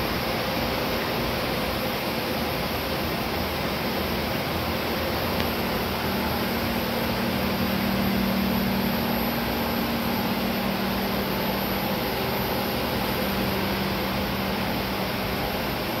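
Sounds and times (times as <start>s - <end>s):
cooling pumps and fans running: 0.0s - 16.0s
faint high whine: 0.0s - 16.0s.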